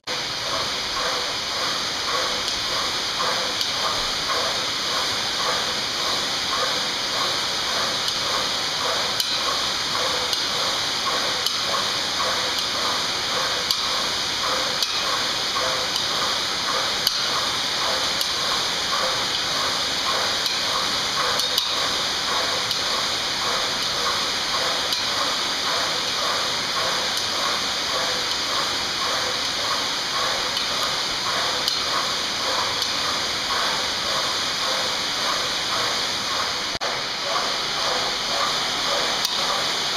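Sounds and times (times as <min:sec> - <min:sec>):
flywheel whooshing hiss: 0:00.2 - 0:39.9.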